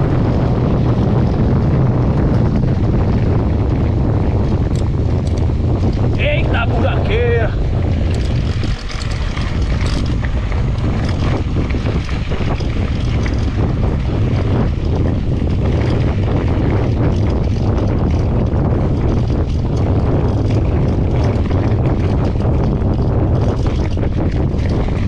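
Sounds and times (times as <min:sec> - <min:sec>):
bike rattling and clicking: 0:00.0 - 0:25.0
wind noise on microphone: 0:00.0 - 0:25.0.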